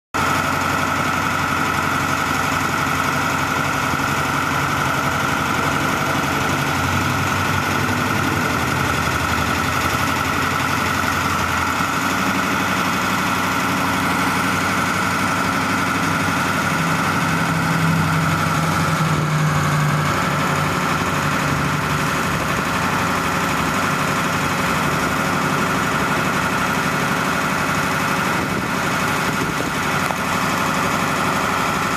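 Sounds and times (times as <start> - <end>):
diesel engine running: 0.2 - 31.9
high whine: 1.6 - 31.9.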